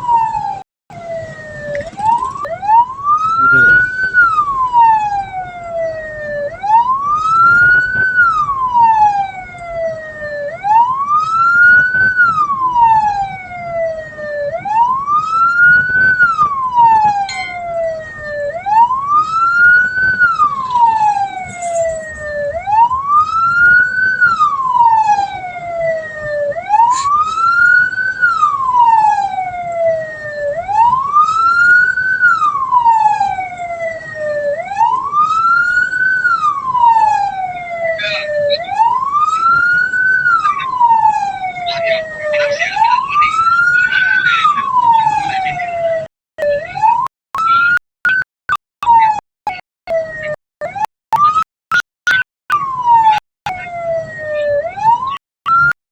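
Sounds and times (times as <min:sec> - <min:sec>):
siren wailing: 0:00.0 - 0:55.8.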